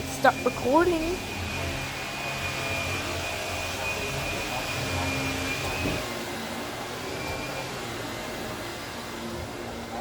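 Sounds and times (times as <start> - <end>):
vacuum cleaner drone: 0.0 - 10.0.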